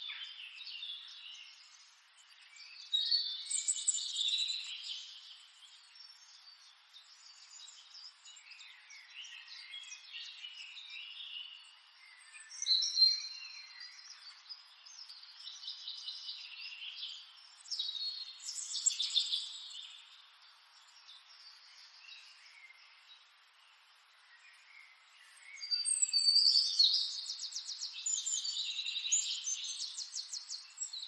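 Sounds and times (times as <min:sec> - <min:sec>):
small birds chirping and trilling: 0:00.0 - 0:31.0.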